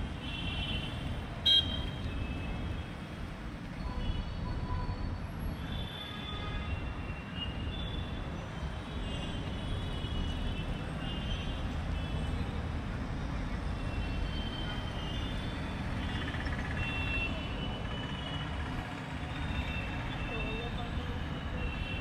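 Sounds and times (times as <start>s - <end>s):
rumble of passing vehicles: 0.0s - 22.0s.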